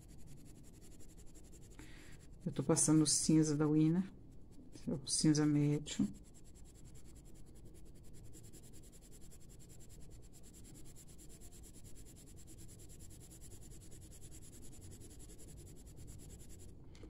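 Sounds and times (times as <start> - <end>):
pencil scratching on paper: 0.0 - 4.0, 4.7 - 16.8.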